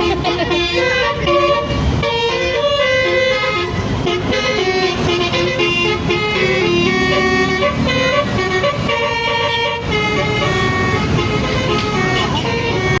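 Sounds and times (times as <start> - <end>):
multi-tone bus horn tune: 0.0 - 13.0.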